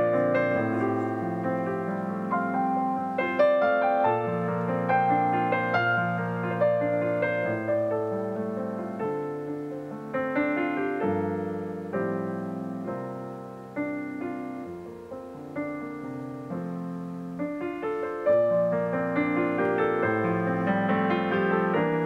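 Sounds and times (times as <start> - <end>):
slow gentle solo piano: 0.0 - 22.0.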